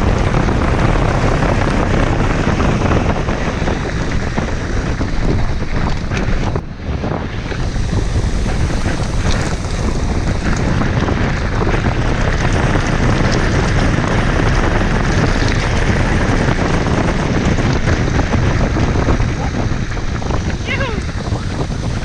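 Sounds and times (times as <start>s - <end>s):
wind roaring on microphone: 0.0s - 22.0s.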